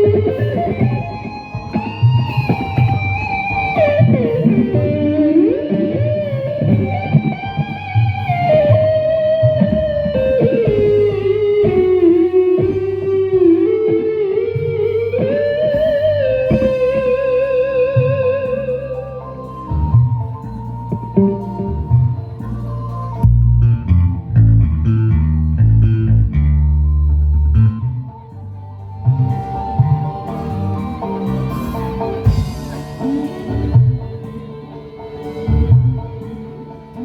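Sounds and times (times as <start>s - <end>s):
dangdut music over sound system: 0.0s - 37.0s.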